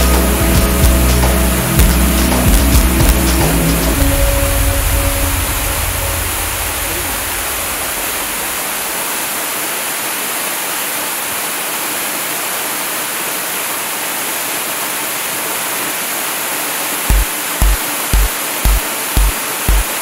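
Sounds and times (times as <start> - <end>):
waterfall rushing onto rocks: 0.0 - 20.0.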